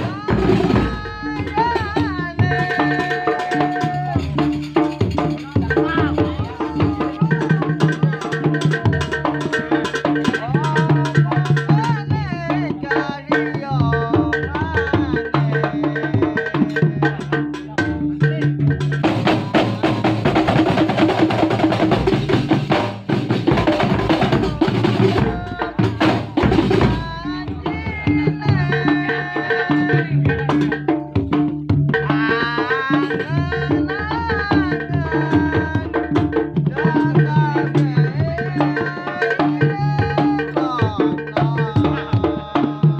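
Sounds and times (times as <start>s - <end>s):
drums and hand percussion: 0.0s - 42.9s.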